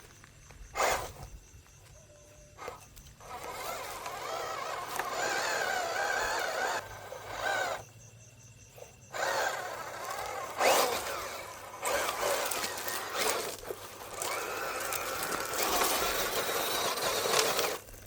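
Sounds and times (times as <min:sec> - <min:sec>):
small electric motor whirring: 0:00.7 - 0:01.4, 0:02.5 - 0:18.0.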